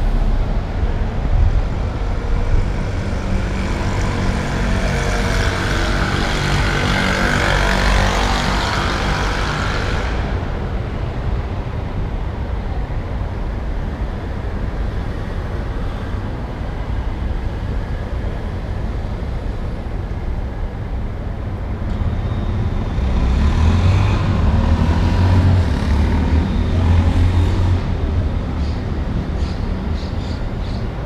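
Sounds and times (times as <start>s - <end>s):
cars passing: 0.0s - 31.0s.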